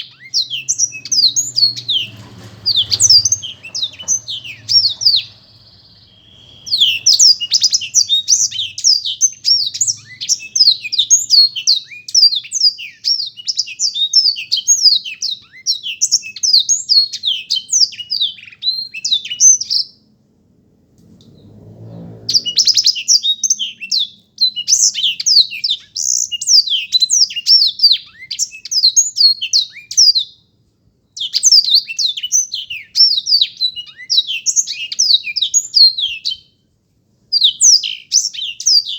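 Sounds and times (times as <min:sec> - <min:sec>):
canary singing: 0:00.0 - 0:20.0, 0:22.3 - 0:30.4, 0:31.2 - 0:36.6, 0:37.3 - 0:38.9.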